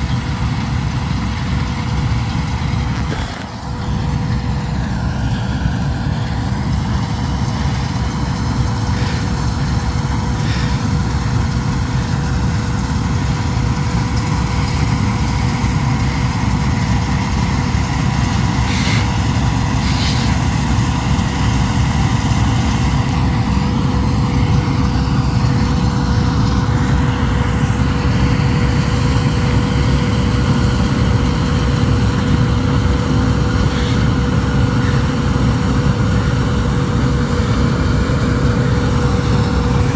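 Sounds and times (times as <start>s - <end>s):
combine harvester diesel drone: 0.0s - 39.9s
steady machine whine: 0.0s - 39.9s.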